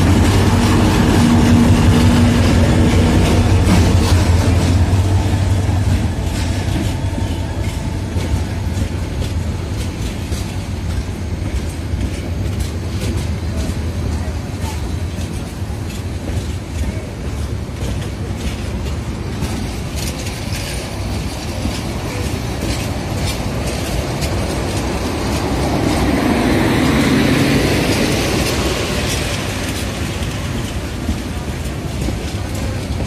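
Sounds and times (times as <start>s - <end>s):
train wheels clicking over rail joints: 0.0s - 33.0s.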